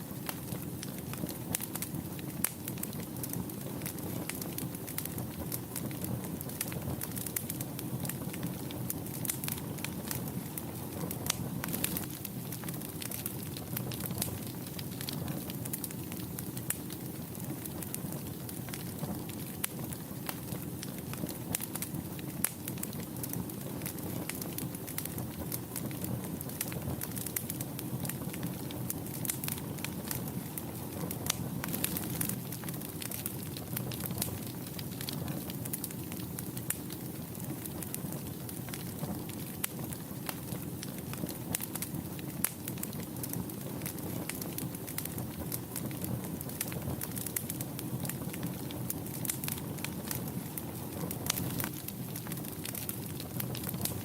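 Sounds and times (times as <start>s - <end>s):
burning wood crackling and popping: 0.0s - 54.0s
flames rumbling: 0.0s - 54.0s.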